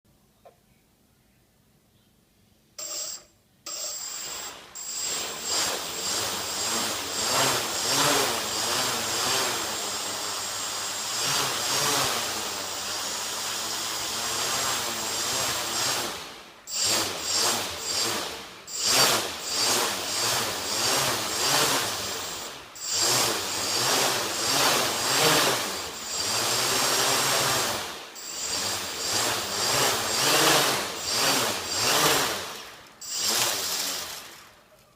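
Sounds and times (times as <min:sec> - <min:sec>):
drone motors whining: 0:02.8 - 0:34.5.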